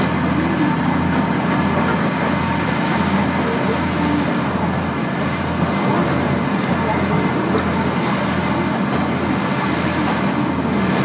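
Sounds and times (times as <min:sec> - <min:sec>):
railcar engine drone: 0:00.0 - 0:11.0
wheels rumbling on rails: 0:00.0 - 0:11.0.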